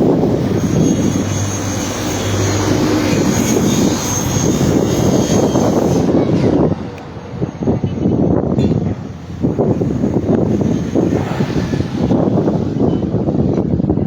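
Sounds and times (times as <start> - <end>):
engine humming with high whine: 0.0 - 14.0.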